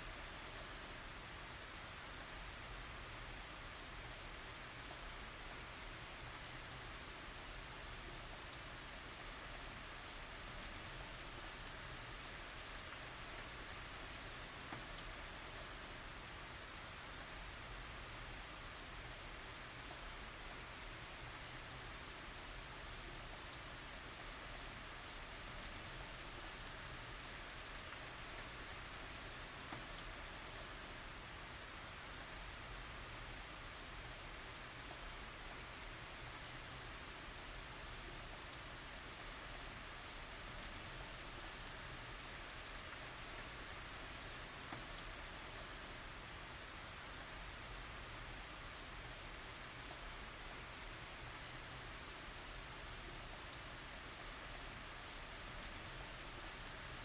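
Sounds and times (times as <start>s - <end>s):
light rain with ticking drops: 0.0s - 57.0s.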